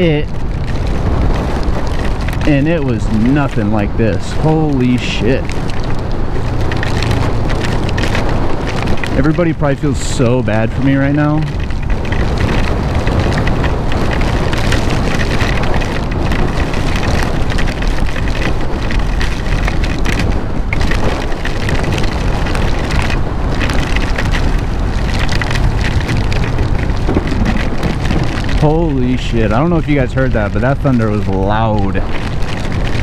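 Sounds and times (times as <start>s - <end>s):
driving rain: 0.0s - 33.0s
heavy low rumble: 0.0s - 33.0s
wind buffeting microphone: 0.0s - 33.0s.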